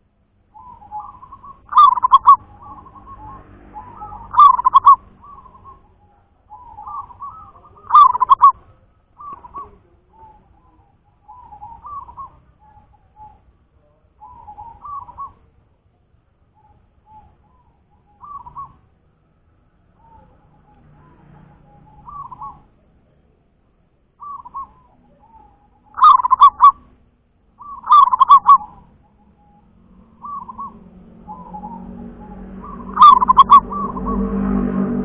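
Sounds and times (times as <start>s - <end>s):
dove cooing: 0.5s - 15.5s, 16.6s - 18.8s, 20.0s - 22.8s, 24.2s - 27.0s, 27.6s - 35.0s.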